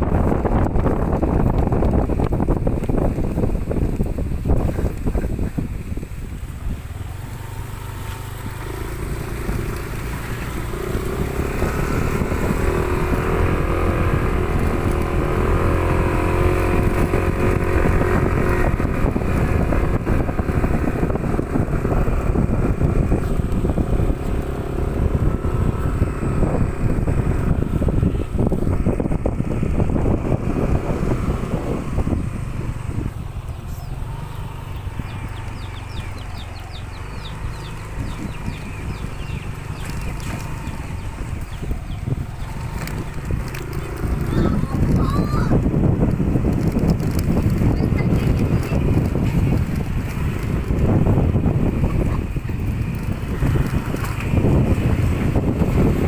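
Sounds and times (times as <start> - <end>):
engine humming: 0.0 - 56.0
wind rumble on microphone: 0.0 - 56.0.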